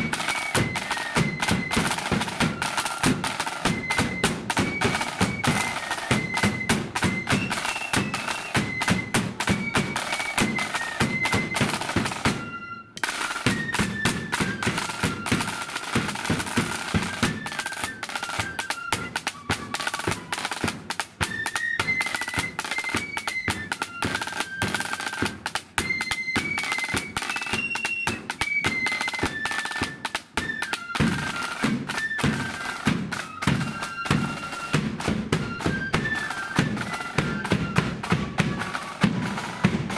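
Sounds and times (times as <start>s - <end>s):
flutes playing melody: 0.0s - 39.9s
side drum strokes and rolls: 0.0s - 39.9s.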